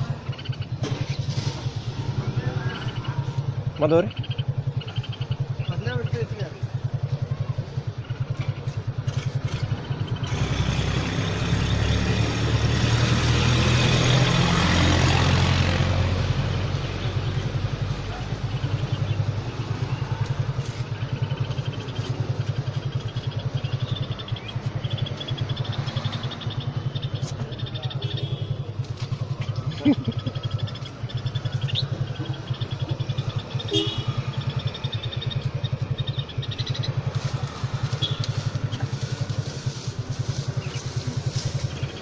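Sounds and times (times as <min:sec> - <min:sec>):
motorcycle engine idling: 0:00.0 - 0:12.9, 0:13.8 - 0:42.0
vehicle passing: 0:00.0 - 0:42.0.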